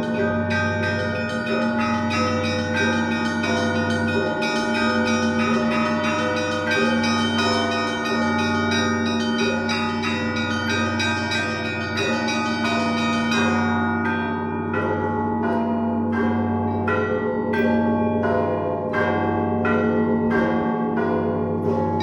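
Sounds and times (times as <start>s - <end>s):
small bells chiming fast: 0.0s - 18.2s
large bells humming: 0.0s - 22.0s.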